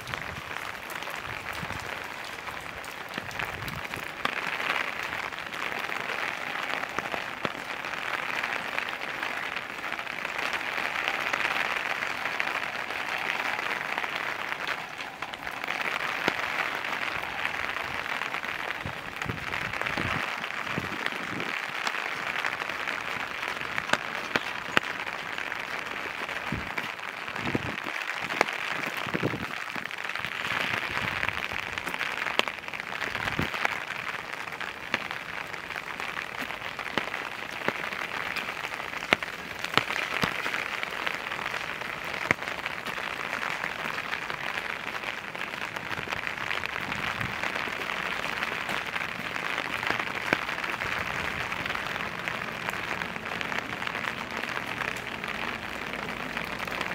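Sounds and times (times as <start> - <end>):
steady rain pattering: 0.0 - 56.9.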